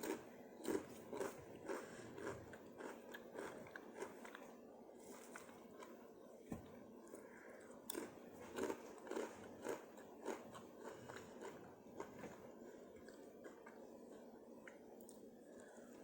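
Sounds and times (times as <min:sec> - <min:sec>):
person chewing crunchy food: 0:00.0 - 0:06.0, 0:07.6 - 0:15.9.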